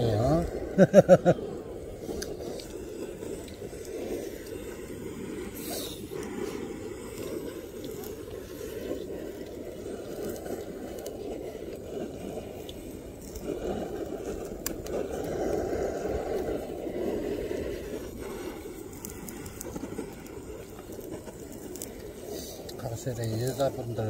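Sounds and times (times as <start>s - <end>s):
butane torch flame blowing: 0.0s - 24.0s.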